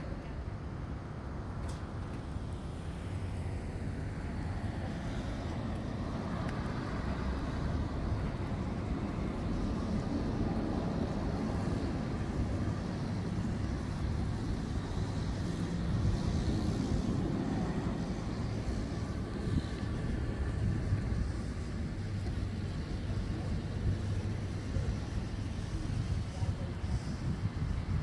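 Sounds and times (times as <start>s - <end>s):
passing road traffic rumble: 0.0s - 28.0s.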